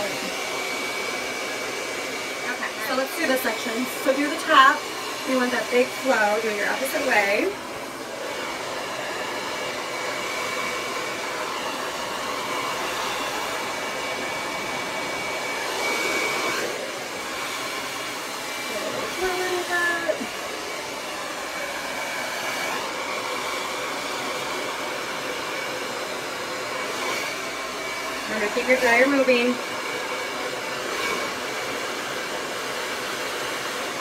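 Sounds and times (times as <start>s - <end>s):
hair dryer blowing: 0.0s - 34.0s.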